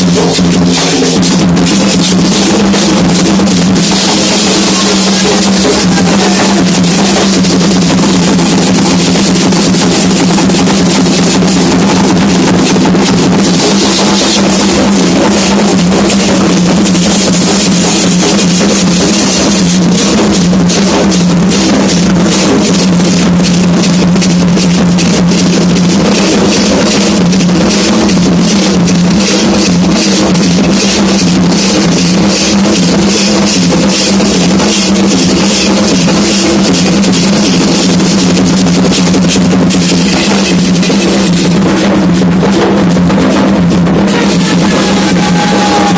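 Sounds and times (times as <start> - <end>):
hand drums rapid rhythm: 0.0 - 45.9.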